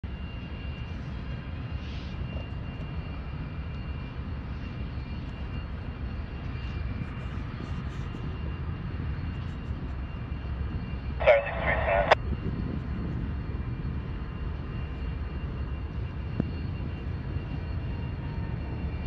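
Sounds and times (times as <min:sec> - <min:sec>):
distant diesel locomotives rumbling: 0:00.4 - 0:19.0.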